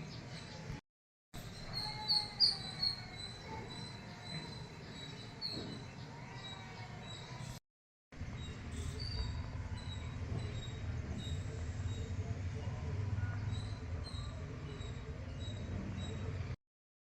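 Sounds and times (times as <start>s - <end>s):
birds chirping: 1.4s - 7.6s, 8.2s - 16.6s.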